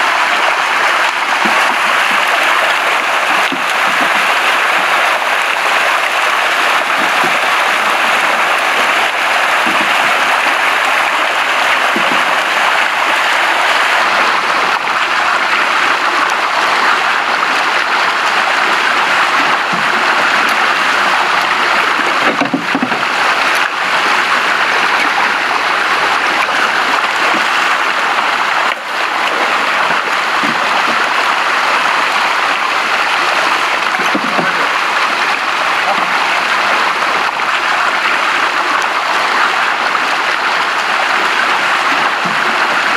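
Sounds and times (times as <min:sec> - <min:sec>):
fish thrashing in water: 0:00.9 - 0:37.5.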